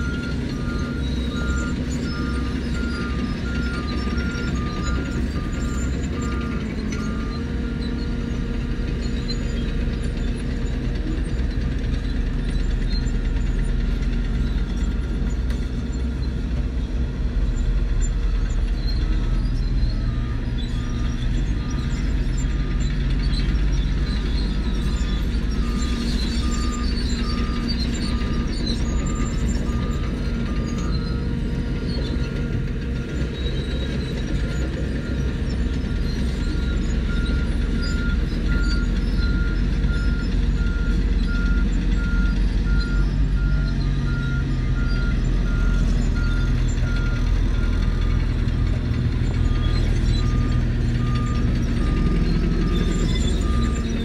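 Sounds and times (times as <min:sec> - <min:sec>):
reversing alarm beeping: 0:00.0 - 0:09.9, 0:18.0 - 0:54.0
heavy diesel engines running: 0:00.0 - 0:54.0.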